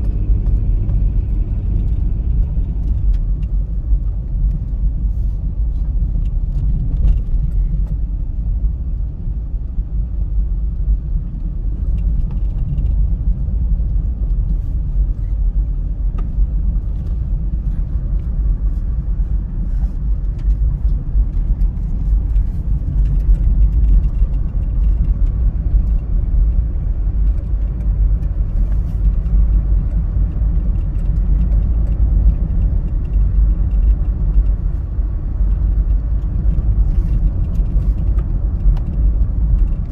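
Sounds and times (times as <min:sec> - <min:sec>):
engine and road noise in cabin: 0:00.0 - 0:39.9.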